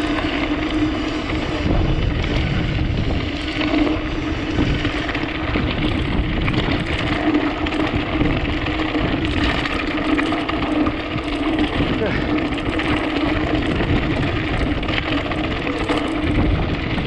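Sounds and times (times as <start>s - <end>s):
steady low hum: 0.0s - 17.0s
tyres rattling on dirt: 0.0s - 17.0s
wind rushing over microphone: 0.0s - 17.0s.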